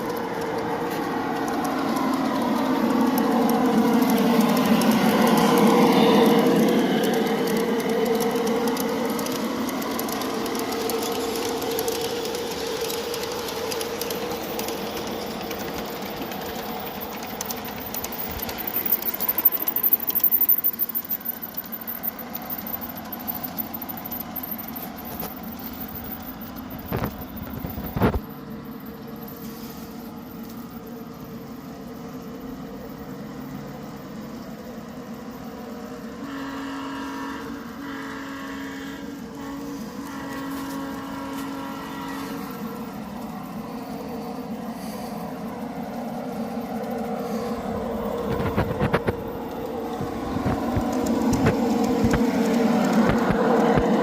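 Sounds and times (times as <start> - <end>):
model train motor whine: 0.0 - 54.0.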